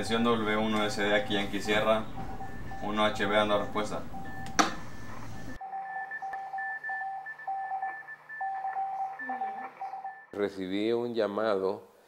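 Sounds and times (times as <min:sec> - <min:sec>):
morse code beeps: 0:00.0 - 0:10.4.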